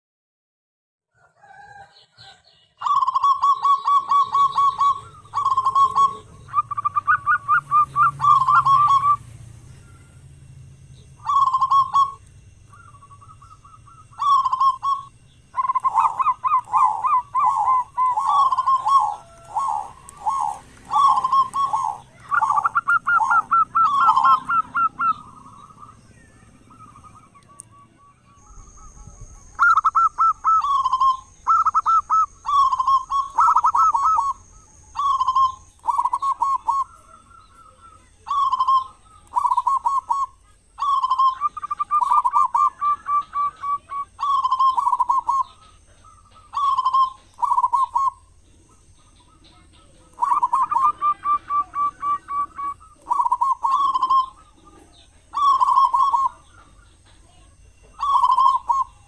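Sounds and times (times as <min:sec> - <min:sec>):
dove cooing: 0:01.2 - 0:59.0.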